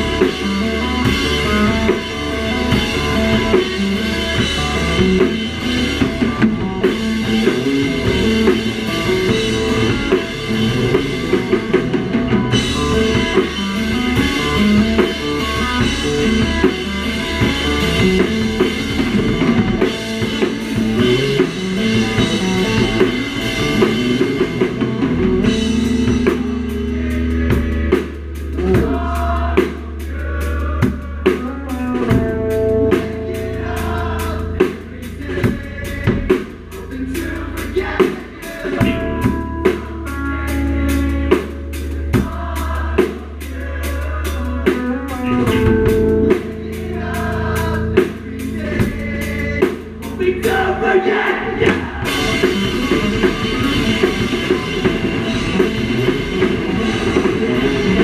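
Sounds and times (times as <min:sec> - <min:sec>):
electric guitar: 0:00.0 - 0:29.6, 0:30.6 - 0:35.3, 0:37.1 - 0:43.0, 0:43.6 - 0:58.0
bass guitar: 0:00.0 - 0:58.0
drum kit: 0:00.0 - 0:58.0.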